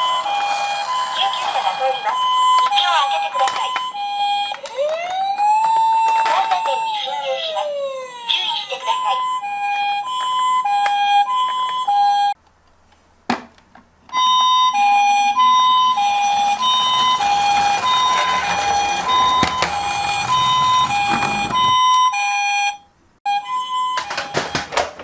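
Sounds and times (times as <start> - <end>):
toy two-tone siren: 0.0 - 12.4, 14.1 - 24.9.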